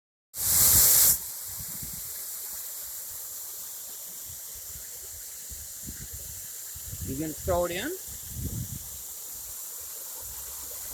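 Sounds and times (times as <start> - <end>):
waterfall rushing hiss: 0.4 - 10.9.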